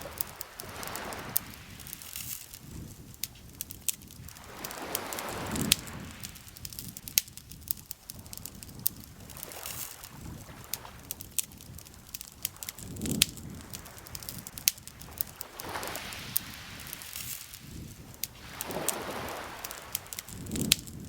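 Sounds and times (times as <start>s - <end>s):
sharp pops from fire: 0.0s - 21.0s
wood campfire crackling: 0.0s - 21.0s.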